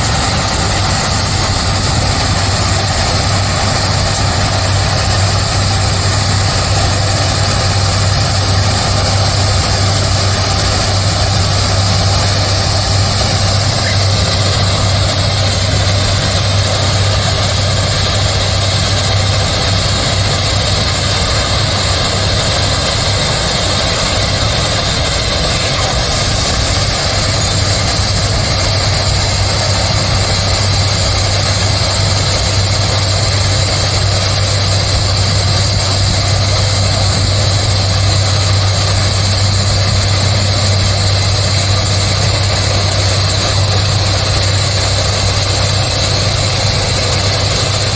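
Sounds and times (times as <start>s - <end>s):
heavy engine drone: 0.0s - 47.9s.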